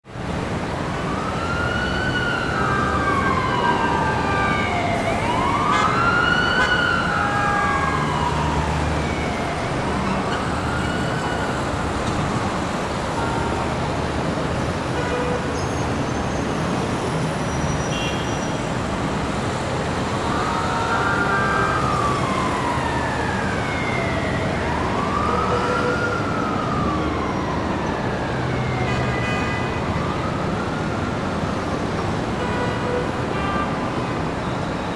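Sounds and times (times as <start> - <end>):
traffic noise: 0.0 - 34.9
emergency vehicle siren wailing: 0.2 - 34.9.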